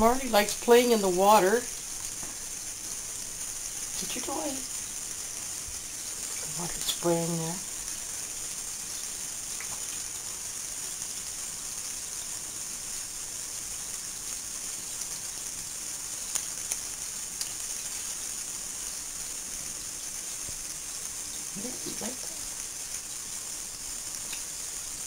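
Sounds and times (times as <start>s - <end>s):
water spraying into bathtub: 0.0s - 25.0s.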